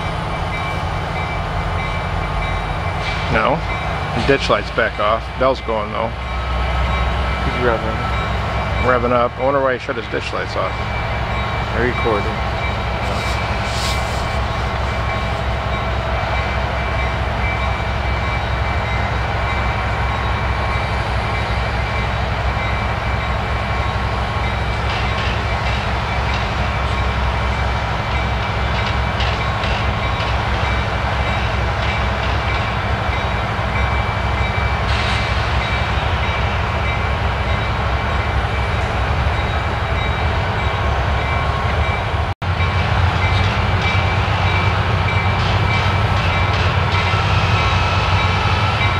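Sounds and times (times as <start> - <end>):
deep locomotive engine drone: 0.0 - 48.9.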